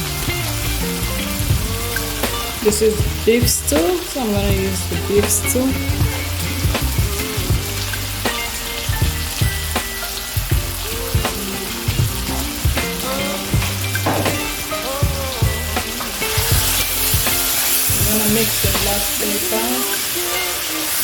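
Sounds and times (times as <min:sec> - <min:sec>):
pop music with beat and bass: 0:00.0 - 0:21.0
sausages sizzling in a pan: 0:00.0 - 0:21.0.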